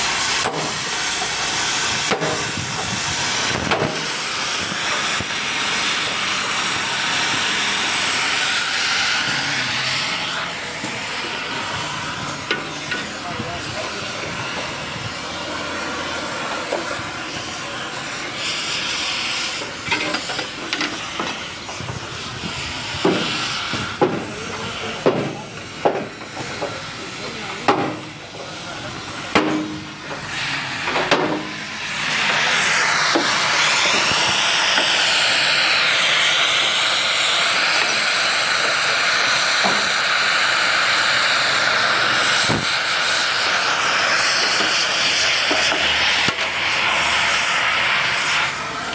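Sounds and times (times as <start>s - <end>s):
loud steady hiss: 0.0s - 48.9s.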